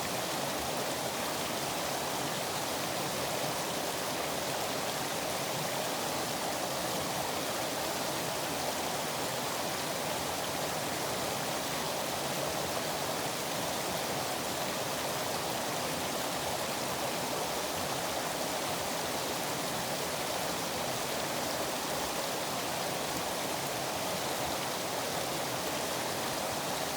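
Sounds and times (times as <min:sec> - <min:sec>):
river water flowing: 0:00.0 - 0:26.9.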